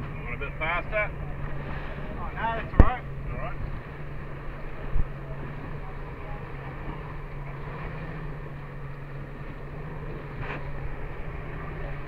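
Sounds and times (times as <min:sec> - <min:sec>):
outboard motor running: 0:00.0 - 0:12.0
water rushing along hull: 0:00.0 - 0:12.0
wind: 0:00.0 - 0:12.0.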